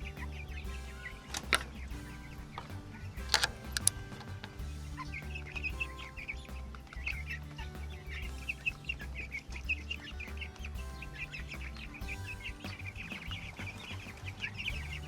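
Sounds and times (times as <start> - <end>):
background music: 0.0 - 15.0
chicks peeping: 0.0 - 15.0.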